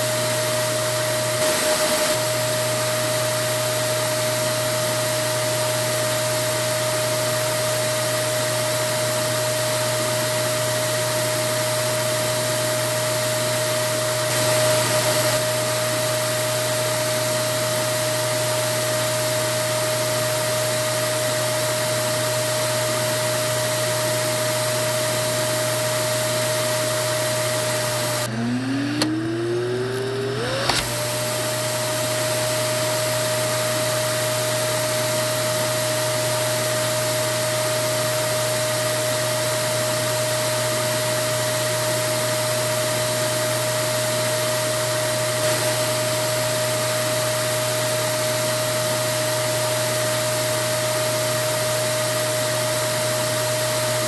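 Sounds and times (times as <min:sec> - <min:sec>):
vacuum cleaner motor running: 0:00.0 - 0:54.0.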